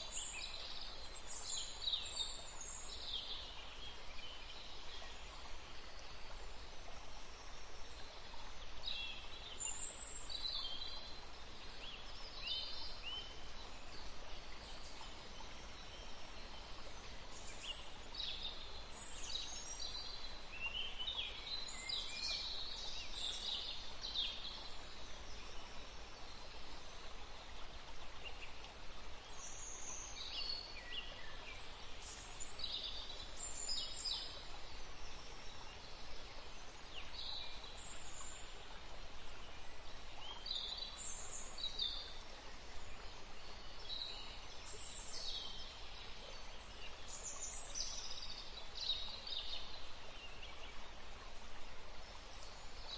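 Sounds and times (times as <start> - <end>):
songbirds chirping: 0.0 - 52.9
steady background hiss: 0.0 - 52.9.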